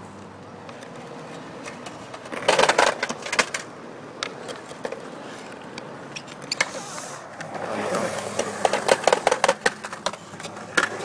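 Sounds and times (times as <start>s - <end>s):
skateboard clattering on concrete: 0.8s - 11.0s.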